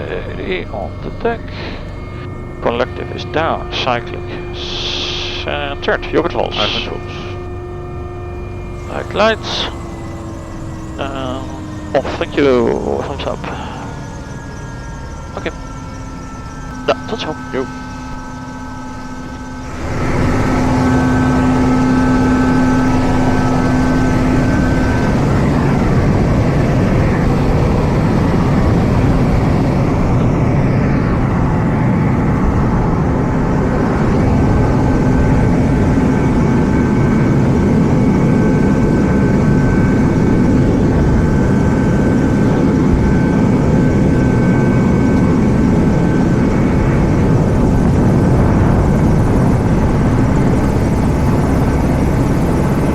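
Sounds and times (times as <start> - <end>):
helicopter rotor and turbine rush: 0.0 - 52.9
high turbine whine: 0.0 - 52.9.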